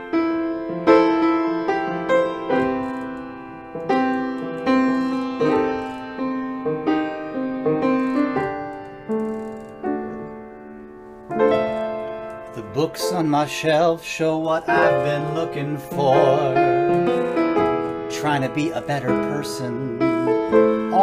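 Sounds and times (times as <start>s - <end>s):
slow piano chords: 0.0s - 21.0s.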